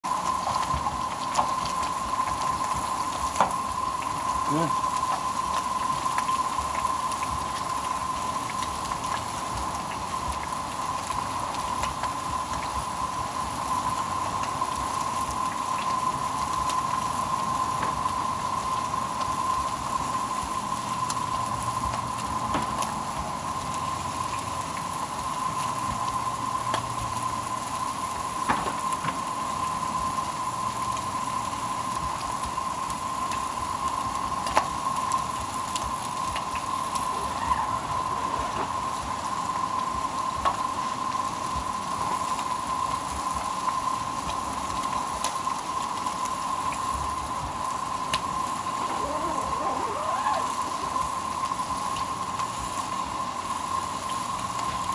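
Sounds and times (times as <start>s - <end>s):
constant high whine: 0.1s - 54.9s
food sizzling in oil: 0.1s - 54.9s.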